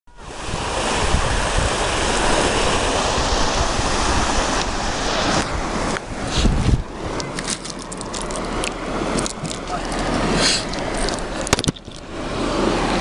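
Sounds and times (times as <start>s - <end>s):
sea surf washing: 0.1s - 13.0s
wind buffeting microphone: 0.2s - 13.0s.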